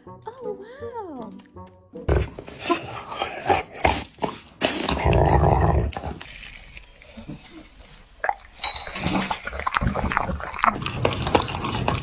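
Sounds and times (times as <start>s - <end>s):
dog chewing: 2.1s - 12.0s.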